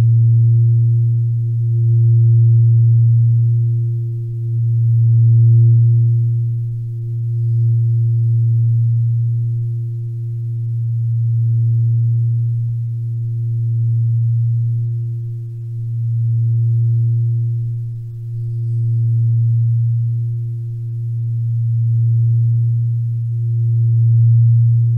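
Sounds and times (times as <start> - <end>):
low humming drone tone: 0.0 - 24.9.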